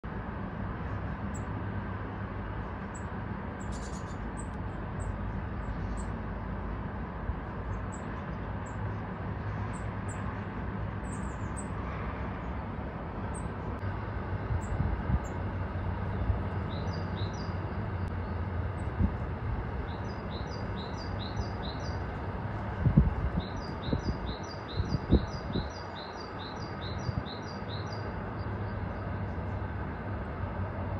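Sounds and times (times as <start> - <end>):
low background rumble: 0.1 - 30.9
songbirds chirping: 2.9 - 6.3, 7.6 - 30.1.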